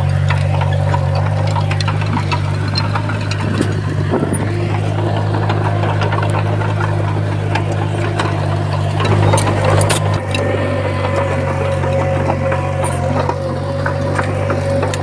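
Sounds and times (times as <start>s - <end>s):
bulldozer diesel engine: 0.0s - 15.0s
clicks and clanks: 0.0s - 15.0s.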